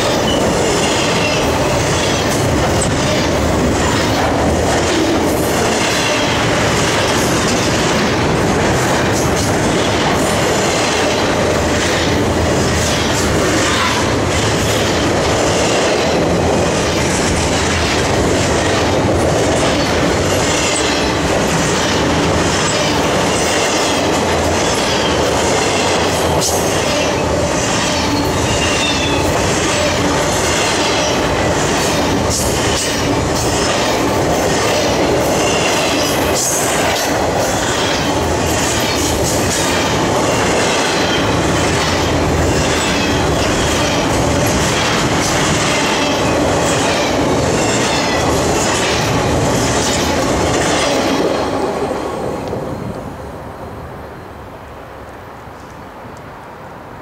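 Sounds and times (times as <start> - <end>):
train wheels roaring on rails: 0.0 - 57.0.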